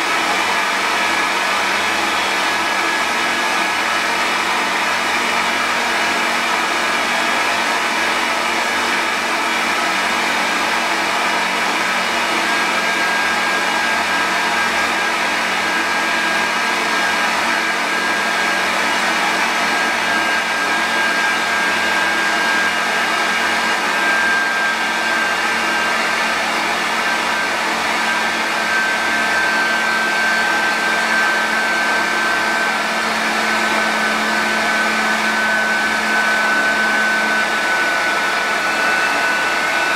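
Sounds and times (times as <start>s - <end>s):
thin whine: 0.0s - 39.9s.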